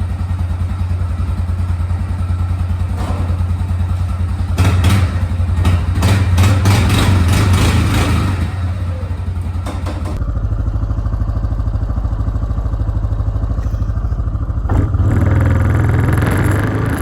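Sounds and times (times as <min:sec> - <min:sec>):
atv engine idling: 0:00.0 - 0:17.0
engine knocking and clatter: 0:00.0 - 0:17.0.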